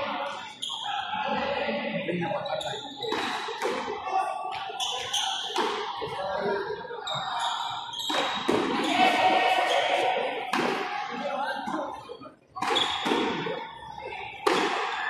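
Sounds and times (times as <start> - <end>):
chatter of spectators: 0.0 - 15.0.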